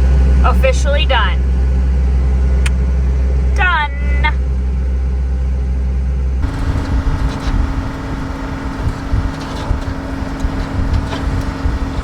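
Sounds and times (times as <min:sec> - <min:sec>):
steady hum: 0:00.0 - 0:12.0
vehicle engine rumbling: 0:00.0 - 0:12.0.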